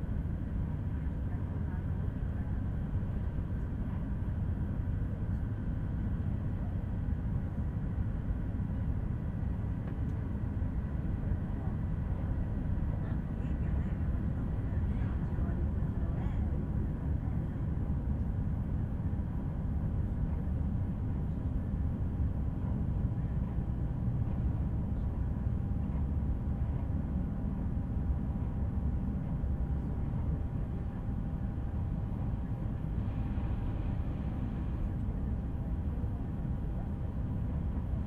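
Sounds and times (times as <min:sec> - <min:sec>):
faint steady hum: 0:00.0 - 0:38.0
train rumbling: 0:00.0 - 0:38.0.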